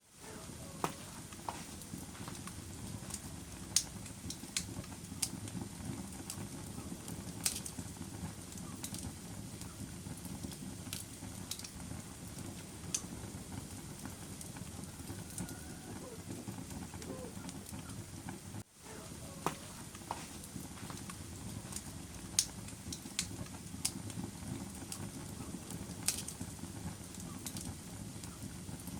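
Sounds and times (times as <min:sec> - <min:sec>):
fire crackling and popping: 0:00.0 - 0:28.9
fire rumbling: 0:00.0 - 0:28.9.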